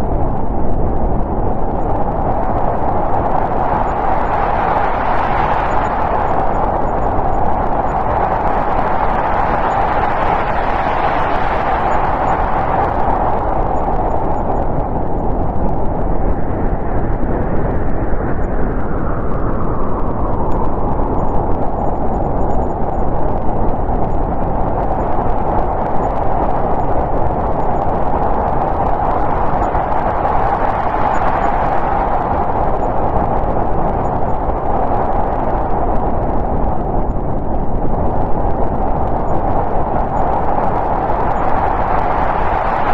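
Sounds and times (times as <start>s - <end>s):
snowstorm wind blowing: 0.0s - 42.9s.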